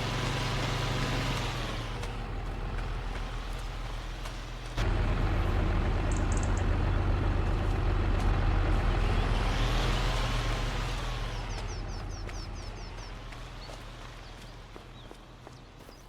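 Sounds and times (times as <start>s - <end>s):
heavy engine droning: 0.0s - 15.6s.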